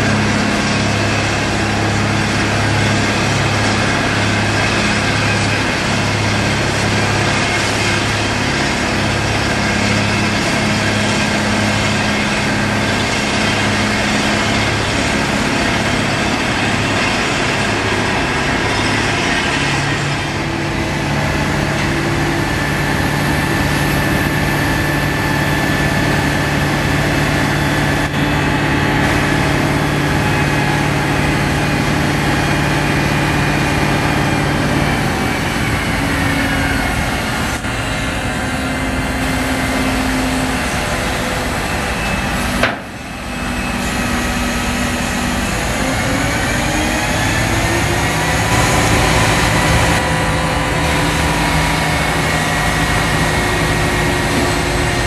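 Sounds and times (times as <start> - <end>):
crane diesel engine running: 0.0 - 55.0.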